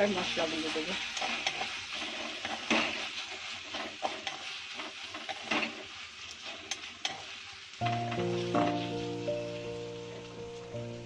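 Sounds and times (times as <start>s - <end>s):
wooden spatula scraping a pan: 0.0s - 10.6s
vegetables sizzling in hot oil: 0.0s - 11.0s.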